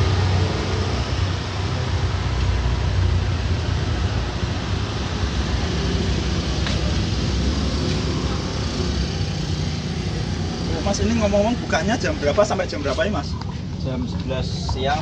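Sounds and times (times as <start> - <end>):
roadside traffic rumble: 0.0 - 15.0.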